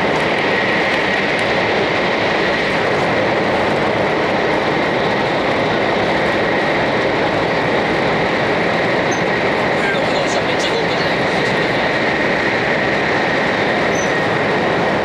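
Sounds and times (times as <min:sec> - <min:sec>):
train cabin rumble and rush: 0:00.0 - 0:15.0.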